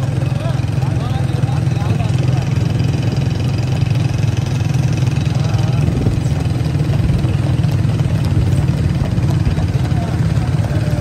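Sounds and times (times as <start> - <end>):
faint voices: 0.0 - 11.0
motorcycle engines droning: 0.0 - 11.0.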